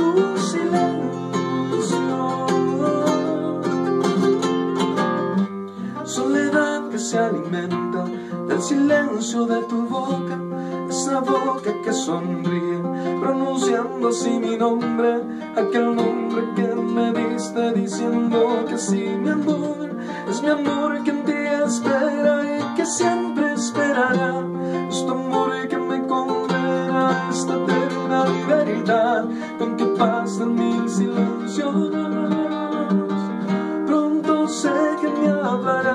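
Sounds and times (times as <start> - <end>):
guitar chords ringing: 0.0 - 35.9.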